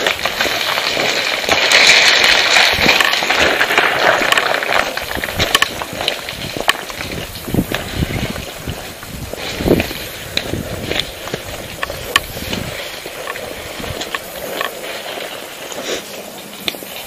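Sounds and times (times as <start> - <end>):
crackling rustling noise: 0.0 - 17.0.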